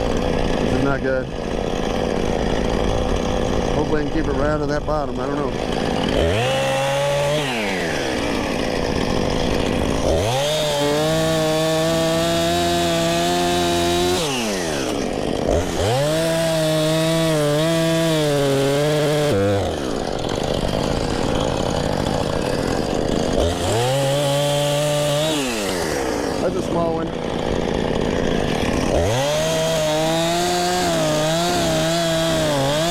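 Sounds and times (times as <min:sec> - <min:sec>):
chainsaw revving: 0:00.0 - 0:32.9.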